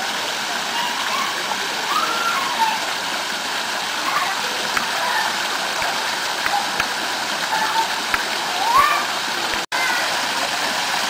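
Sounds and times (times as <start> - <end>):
waterfall splashing into pool: 0.0 - 11.0.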